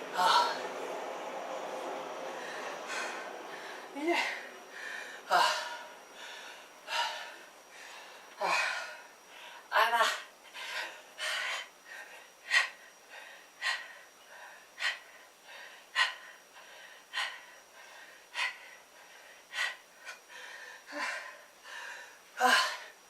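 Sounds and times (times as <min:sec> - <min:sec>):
man breathing hard: 0:02.2 - 0:09.7, 0:10.4 - 0:23.0.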